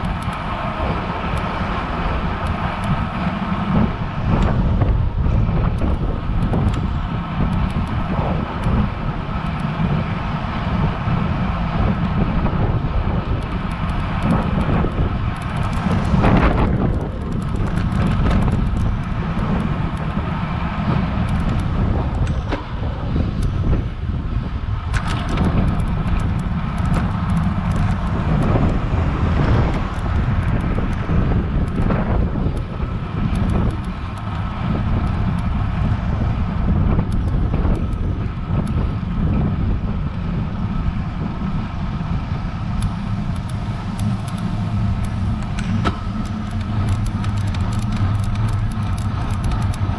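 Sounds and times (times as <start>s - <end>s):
road rumble: 0.0s - 49.9s
wind rushing: 0.0s - 49.9s.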